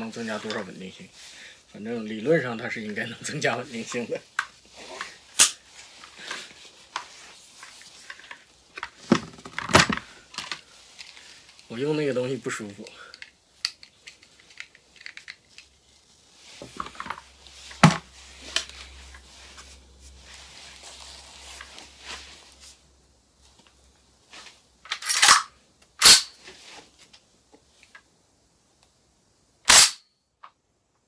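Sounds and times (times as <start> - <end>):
soft gas hiss: 0.0 - 31.0.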